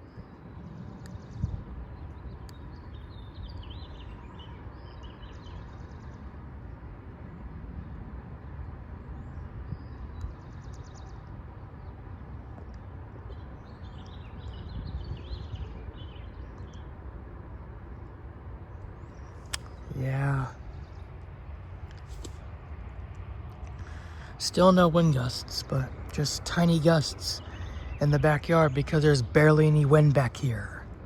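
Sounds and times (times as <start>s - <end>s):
birds chirping: 0.0s - 6.9s, 9.0s - 31.0s
wind buffeting microphone: 0.0s - 28.7s.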